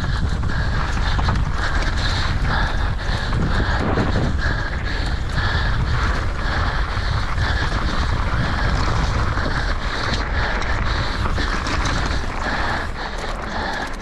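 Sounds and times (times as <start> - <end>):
heavy rhythmic breathing: 0.0 - 14.0
wind buffeting microphone: 0.0 - 14.0.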